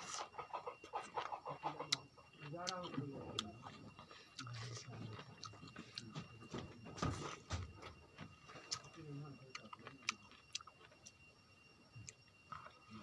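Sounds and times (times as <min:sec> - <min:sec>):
chewing: 0:00.0 - 0:06.7, 0:07.3 - 0:11.2, 0:12.0 - 0:13.0.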